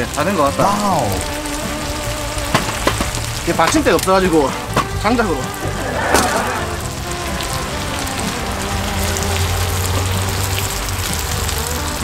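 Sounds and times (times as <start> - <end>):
background music: 0.0 - 12.0
meat sizzling in a pan: 0.0 - 12.0.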